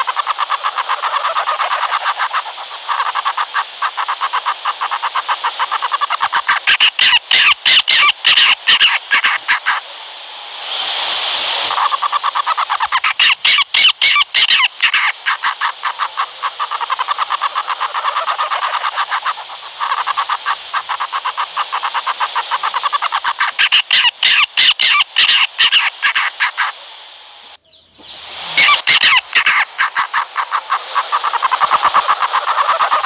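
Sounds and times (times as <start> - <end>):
owl chattering call: 0.0 - 9.9, 11.7 - 26.9, 27.5 - 33.0.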